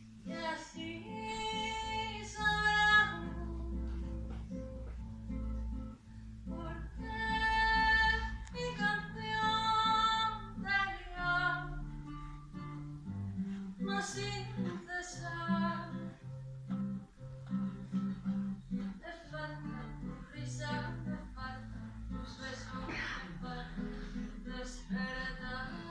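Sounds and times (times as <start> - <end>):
guitar accompaniment: 0.0 - 25.9.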